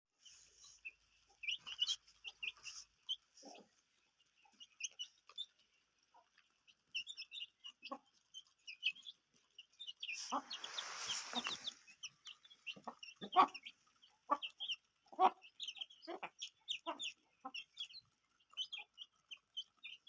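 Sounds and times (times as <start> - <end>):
chicks peeping: 0.2 - 20.0.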